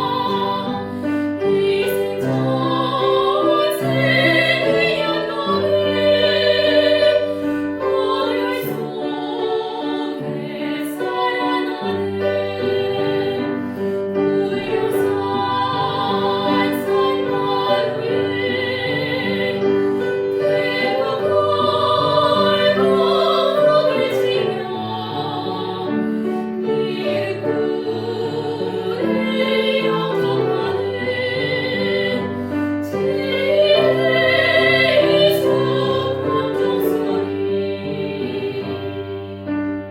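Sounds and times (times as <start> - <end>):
person singing hymn with vibrato: 0.0 - 39.9
piano: 0.0 - 39.9.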